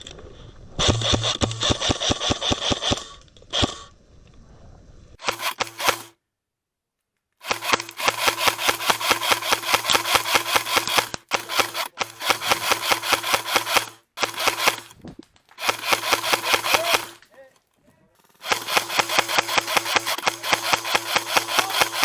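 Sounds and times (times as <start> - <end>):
airsoft gun firing bursts: 0.8 - 3.9, 5.2 - 6.2, 7.4 - 17.3, 18.2 - 22.0.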